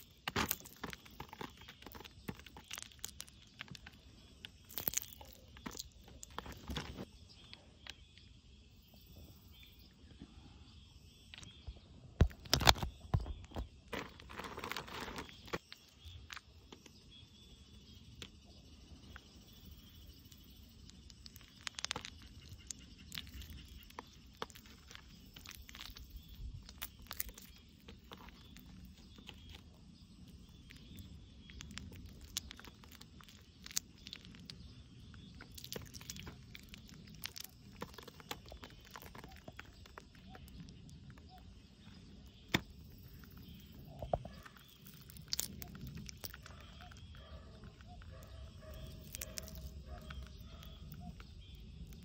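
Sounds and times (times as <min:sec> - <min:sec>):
honeycomb crackling in hand: 0:00.0 - 0:08.3, 0:11.3 - 0:52.0.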